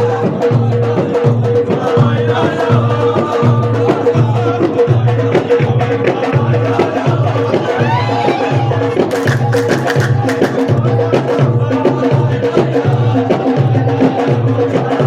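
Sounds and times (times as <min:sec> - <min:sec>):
frame drums beating: 0:00.0 - 0:15.0
voices singing: 0:00.0 - 0:15.0.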